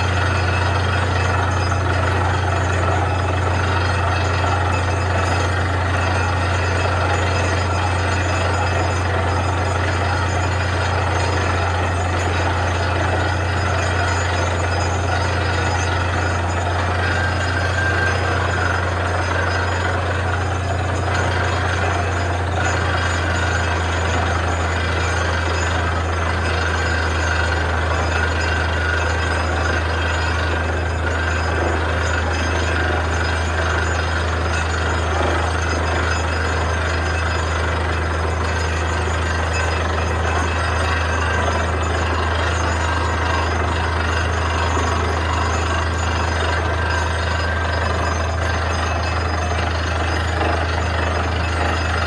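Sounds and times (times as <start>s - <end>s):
drilling rig low drone: 0.0s - 52.0s.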